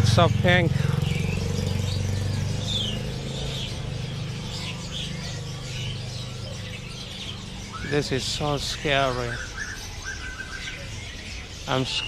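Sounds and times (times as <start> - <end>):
caged birds chirping: 0.0 - 12.0
vehicle engine humming: 0.0 - 12.0.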